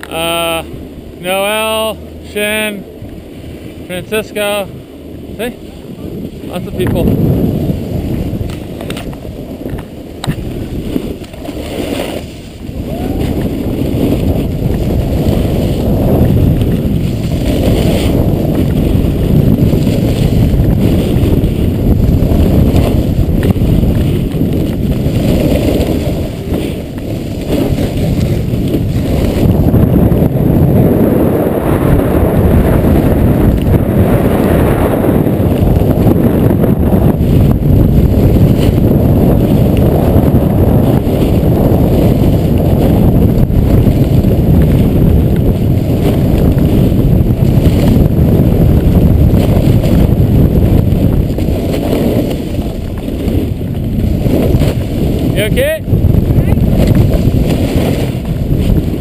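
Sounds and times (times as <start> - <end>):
wind on microphone: 0.0 - 59.0
snowboard scraping on snow: 0.1 - 59.0.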